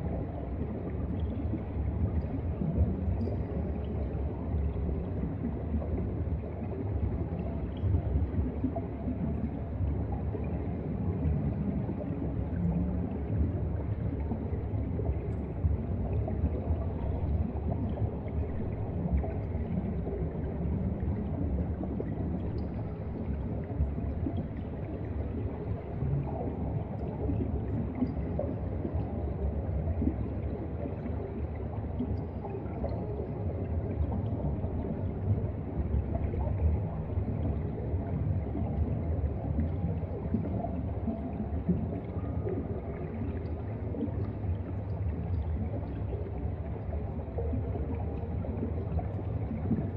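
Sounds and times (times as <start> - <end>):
underwater rumble and slosh: 0.0 - 49.9.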